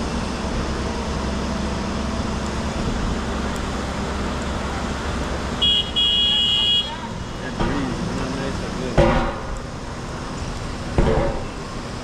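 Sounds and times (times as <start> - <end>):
outdoor rumble with hiss: 0.0 - 12.0.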